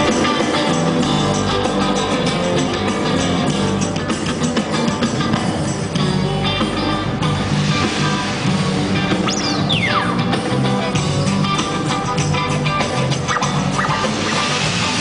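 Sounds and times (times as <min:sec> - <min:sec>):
music with guitar and drums: 0:00.0 - 0:15.0.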